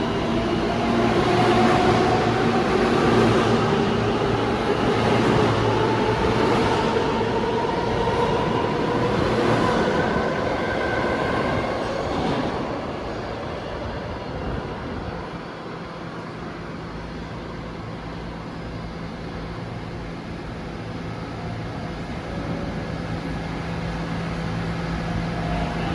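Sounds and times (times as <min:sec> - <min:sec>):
subway train motors whining: 0:00.0 - 0:25.9.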